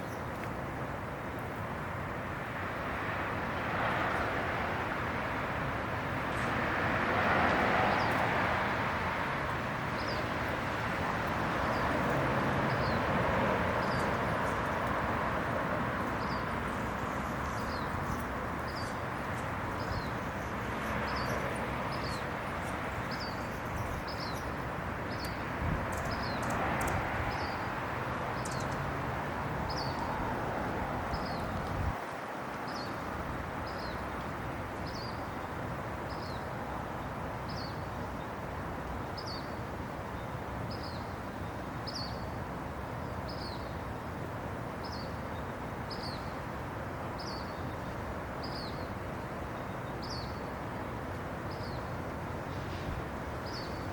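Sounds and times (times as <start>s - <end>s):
distant traffic noise: 0.0s - 53.9s.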